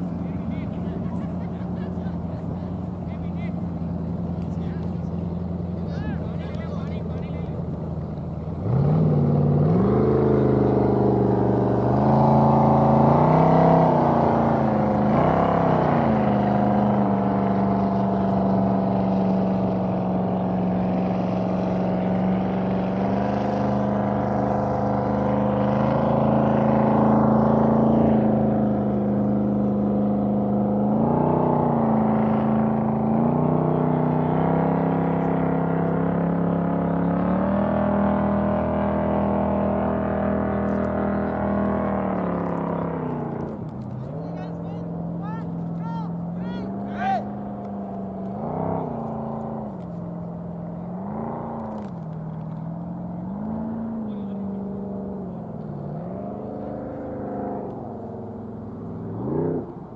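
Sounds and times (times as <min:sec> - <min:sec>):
engine running and revving: 0:00.0 - 0:59.9.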